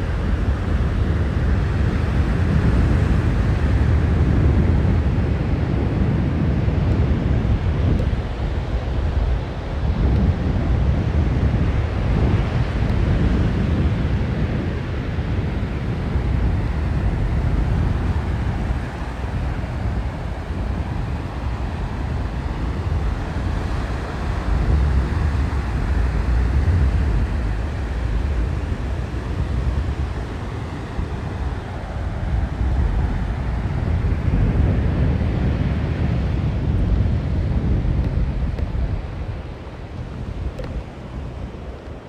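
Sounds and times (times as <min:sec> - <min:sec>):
sea surf on beach: 0:00.0 - 0:42.0
wind buffeting microphone: 0:00.0 - 0:42.0.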